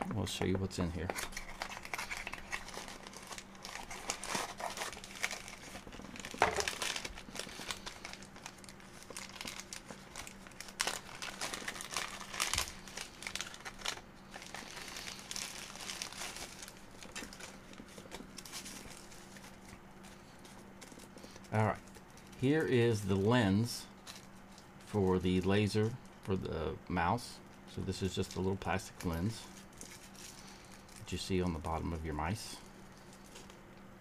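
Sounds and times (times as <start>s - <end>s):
plastic bags crinkling: 1.0s - 23.4s, 27.9s - 33.6s.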